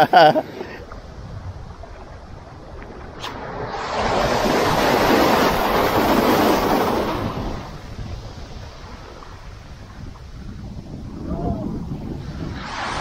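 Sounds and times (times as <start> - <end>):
ocean waves breaking on rocks: 0.0 - 13.0.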